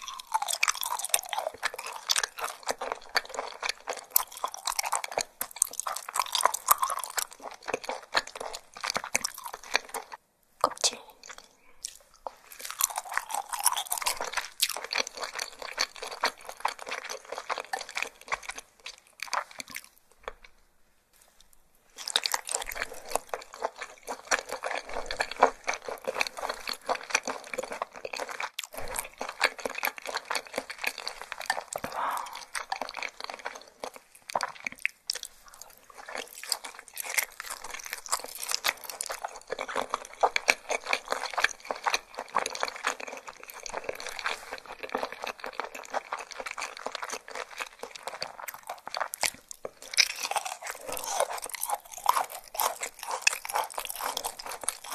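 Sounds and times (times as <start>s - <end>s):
crunchy chewing: 0.0s - 20.6s, 21.2s - 54.9s.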